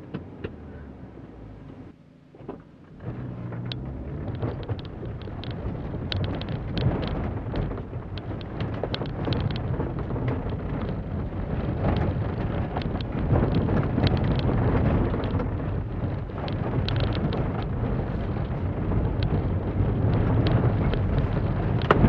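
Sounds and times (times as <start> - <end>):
car engine accelerating: 0.0 - 22.0
road noise: 0.0 - 22.0
sharp ticks and rattles: 3.5 - 22.0.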